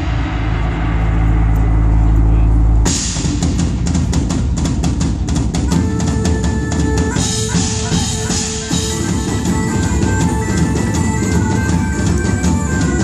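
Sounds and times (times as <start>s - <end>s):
drum kit sharp hits: 0.0s - 13.0s
live band through pa: 0.0s - 13.0s.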